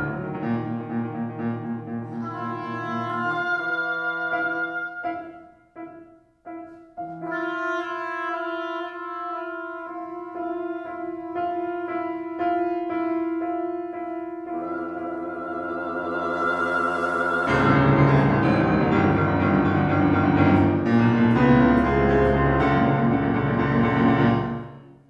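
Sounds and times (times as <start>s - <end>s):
bassoon: 0.0s - 6.0s, 7.0s - 24.9s
piano: 0.0s - 25.0s
oboe: 2.1s - 5.6s, 7.0s - 24.5s.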